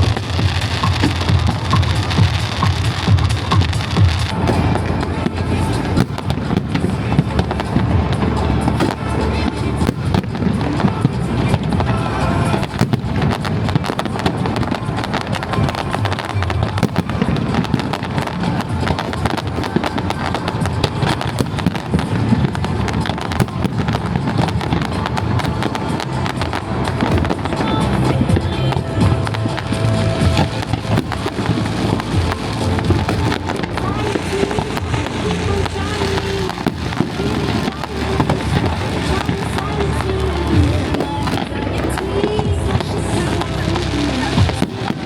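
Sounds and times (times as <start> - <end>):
fireworks cracks and bangs: 0.0 - 45.0
music playing: 0.0 - 45.0.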